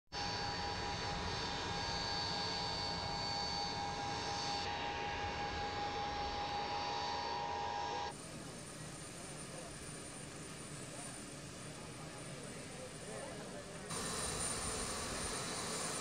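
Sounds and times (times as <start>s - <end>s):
aircraft engines whining: 0.2s - 16.0s.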